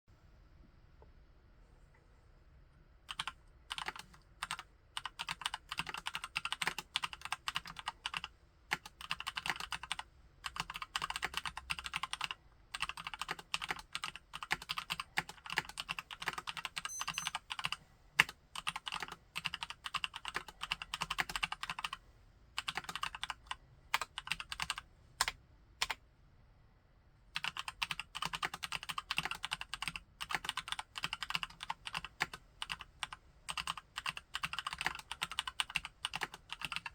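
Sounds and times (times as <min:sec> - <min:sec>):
mechanical keyboard typing: 0:03.1 - 0:22.0, 0:22.6 - 0:26.0, 0:27.4 - 0:36.9.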